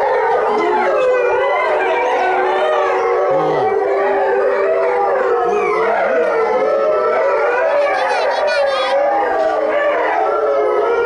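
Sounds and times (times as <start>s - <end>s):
wolves howling in chorus: 0.0s - 11.0s.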